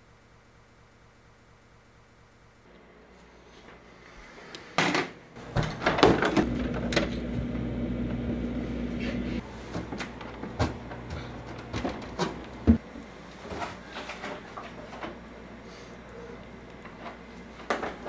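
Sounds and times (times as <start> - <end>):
steady electric hum: 0.0 - 18.0.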